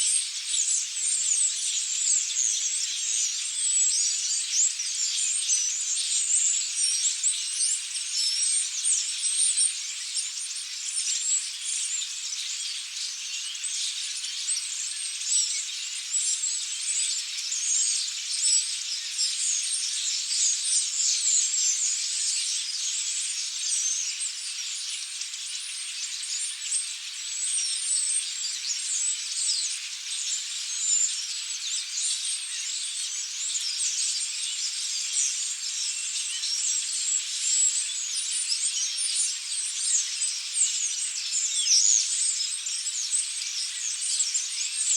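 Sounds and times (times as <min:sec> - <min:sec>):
flock of starlings chattering: 0:00.0 - 0:44.9.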